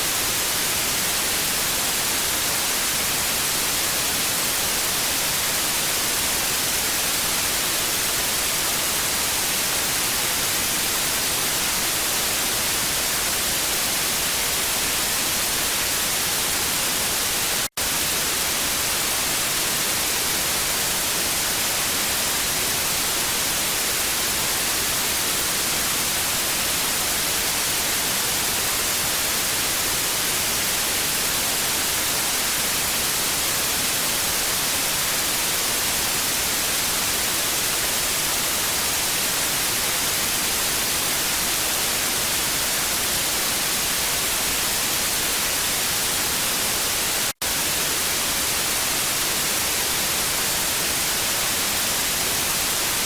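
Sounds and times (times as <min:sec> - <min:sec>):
television static hiss: 0:00.0 - 0:53.0.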